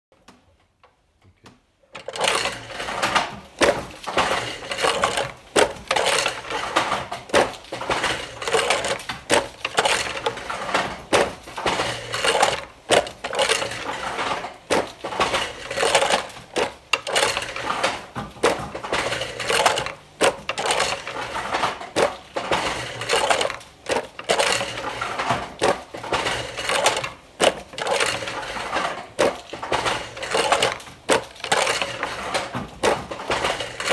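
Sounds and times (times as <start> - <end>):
handloom wooden clacking: 1.9 - 33.9.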